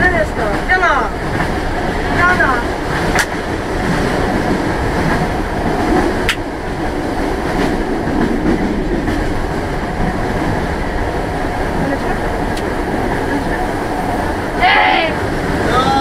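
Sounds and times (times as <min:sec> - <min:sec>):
train running noise inside carriage: 0:00.0 - 0:16.0.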